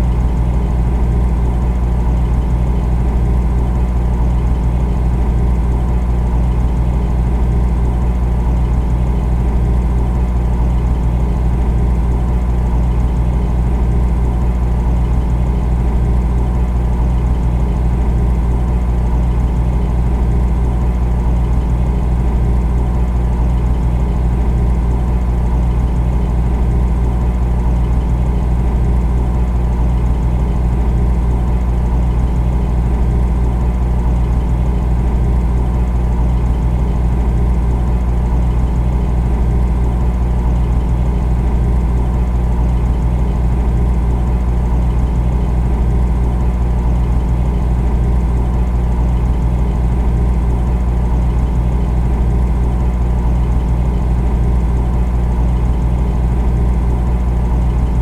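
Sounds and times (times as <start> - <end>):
refrigerator humming: 0.0 - 58.0.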